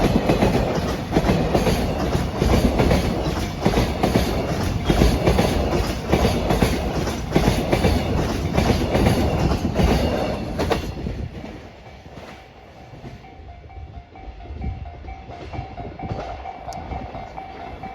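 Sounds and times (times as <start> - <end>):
train wheels clickety-clack: 0.0 - 17.9.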